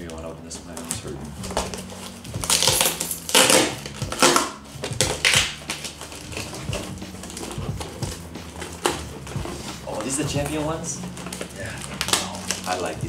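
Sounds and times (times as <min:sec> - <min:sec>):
cardboard ripping: 0:00.8 - 0:13.0
packaging rustling: 0:00.8 - 0:13.0.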